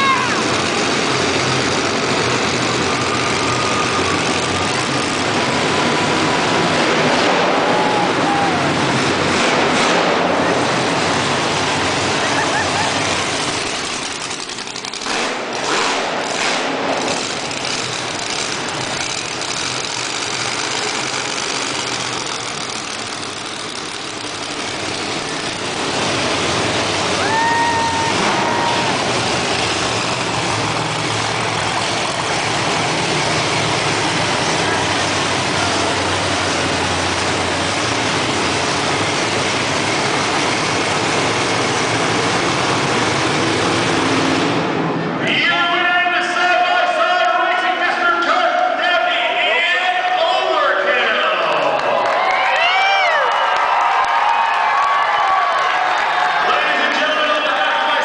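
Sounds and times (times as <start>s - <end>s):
monster truck engines running: 0.0s - 58.0s.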